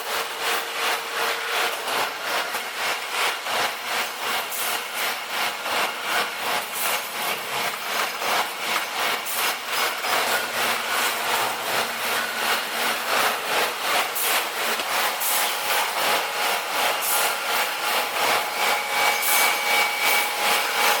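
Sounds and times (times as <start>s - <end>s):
tire shredding machine grinding: 0.0s - 21.0s.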